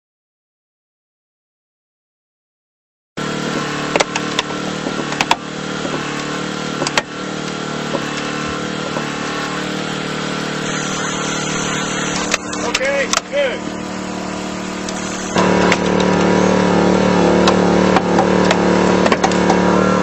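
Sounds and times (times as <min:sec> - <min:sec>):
small engine running: 0:03.2 - 0:20.0.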